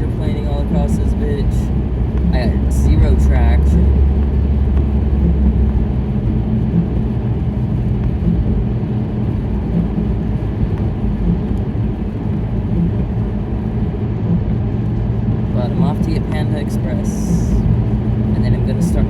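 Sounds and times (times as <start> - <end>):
tyres rumbling on wet road: 0.0 - 19.0.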